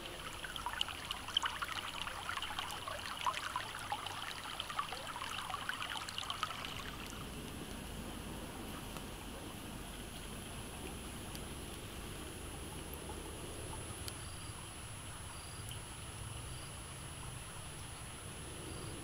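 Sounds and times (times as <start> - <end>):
stream babbling over rocks: 0.0 - 19.0.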